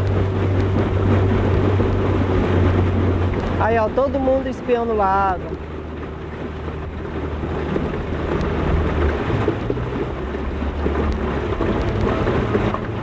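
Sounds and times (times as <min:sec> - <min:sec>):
outboard motor running: 0:00.0 - 0:13.0
water wash: 0:00.0 - 0:13.0
wind buffeting microphone: 0:00.0 - 0:13.0.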